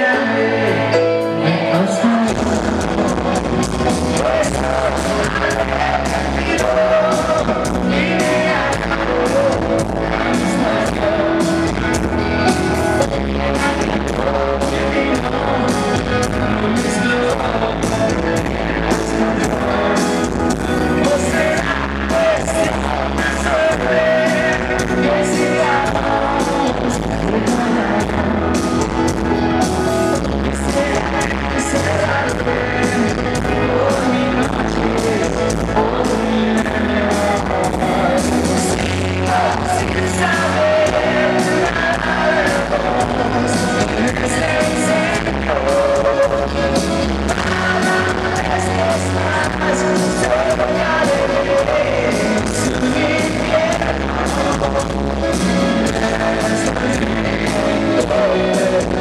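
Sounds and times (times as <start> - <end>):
man singing: 0.0 - 59.0
rock band playing: 0.0 - 59.0.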